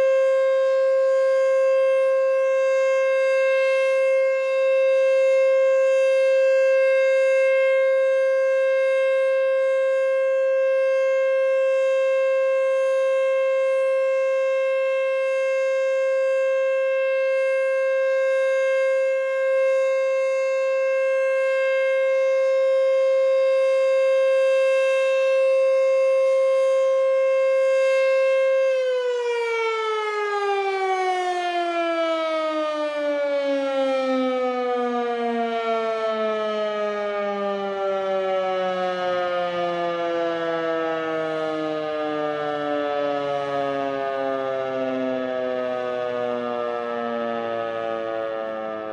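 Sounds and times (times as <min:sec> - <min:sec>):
tornado siren: 0:00.0 - 0:48.9.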